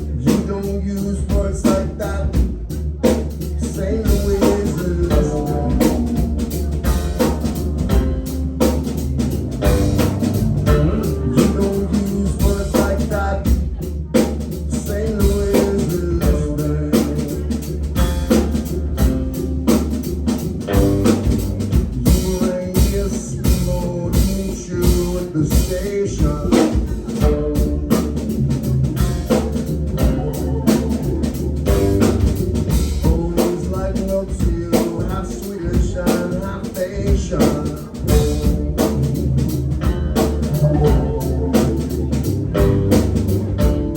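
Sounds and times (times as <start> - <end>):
deep bass line: 0.0 - 43.9
drum kit beat: 0.0 - 43.9
live band playing: 0.0 - 43.9.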